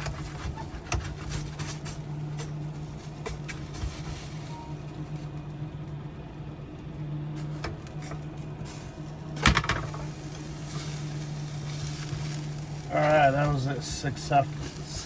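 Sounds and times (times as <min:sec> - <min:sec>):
vent fan humming: 0:00.0 - 0:15.0.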